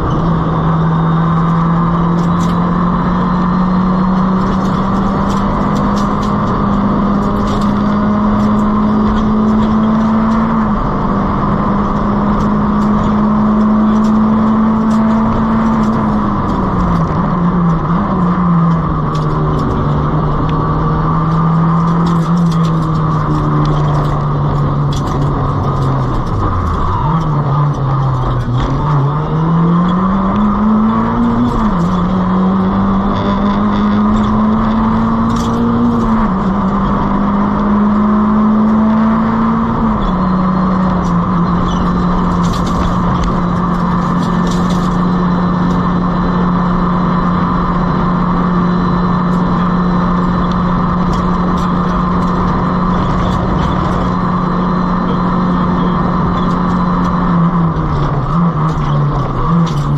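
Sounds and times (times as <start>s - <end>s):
car engine running under load: 0.0s - 59.9s
road noise: 0.0s - 59.9s.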